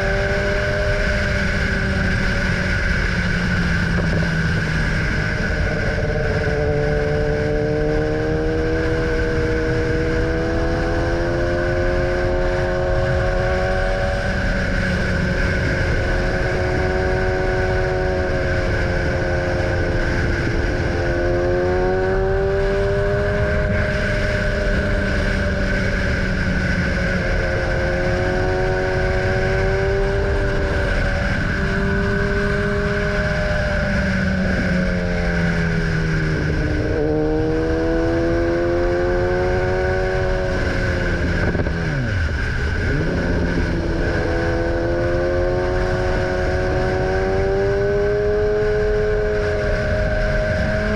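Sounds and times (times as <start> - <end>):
motorcycle engine running: 0.0 - 50.9
steady rushing noise: 0.0 - 50.9.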